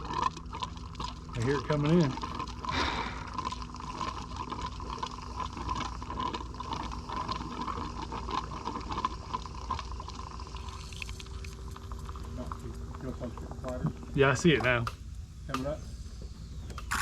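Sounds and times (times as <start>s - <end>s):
faint steady hum: 0.0s - 17.0s
fuel gurgling and trickling: 0.0s - 17.0s.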